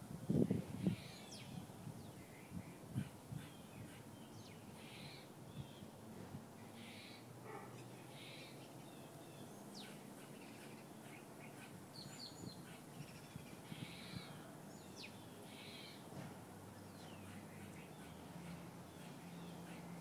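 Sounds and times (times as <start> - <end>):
bird chirps and calls: 0.3 - 5.9, 6.6 - 16.1, 16.8 - 20.0.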